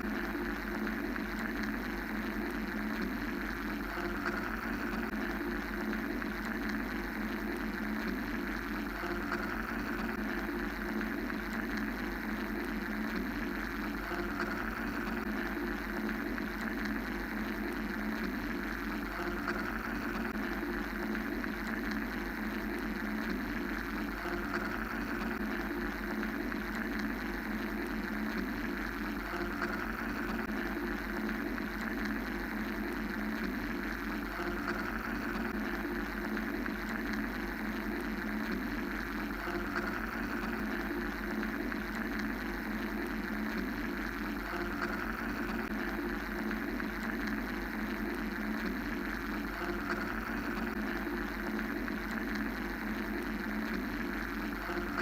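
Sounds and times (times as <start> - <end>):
mechanical white noise drone: 0.0 - 55.0.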